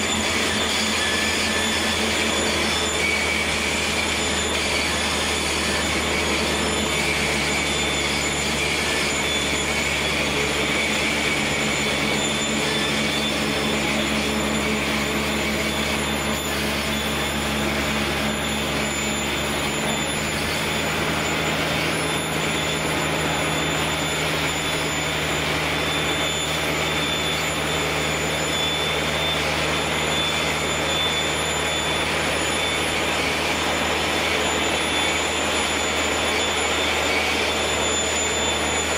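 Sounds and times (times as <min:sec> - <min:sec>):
high whine of unloading drive: 0:00.0 - 0:38.9
machine engines droning: 0:00.0 - 0:38.9.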